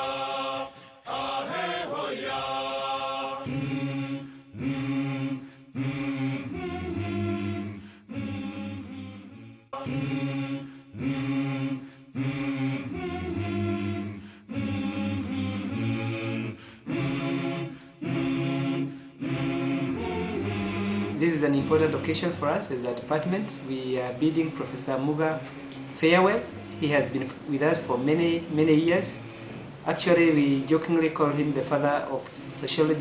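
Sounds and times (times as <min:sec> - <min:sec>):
voices chanting: 0:00.0 - 0:33.0.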